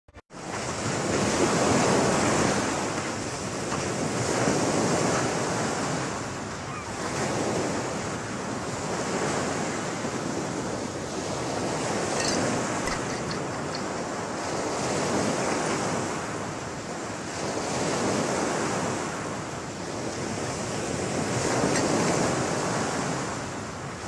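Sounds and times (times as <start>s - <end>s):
ocean waves breaking on beach: 0.3s - 24.0s.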